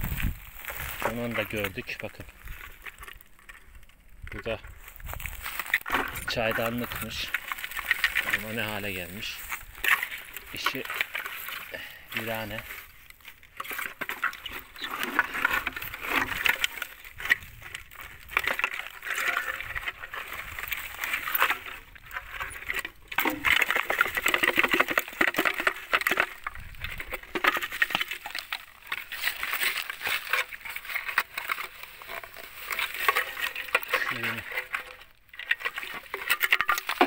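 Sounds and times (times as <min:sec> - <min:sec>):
dry brush rustling and crackling: 0:00.0 - 0:37.0.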